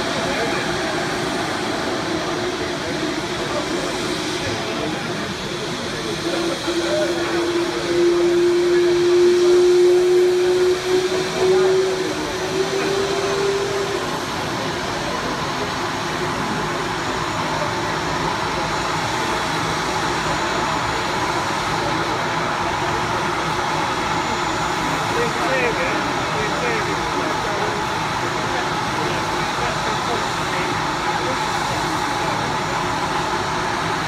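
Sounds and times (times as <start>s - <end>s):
helicopter turbine engine hum: 0.0s - 34.0s
turbine whine: 0.0s - 34.0s.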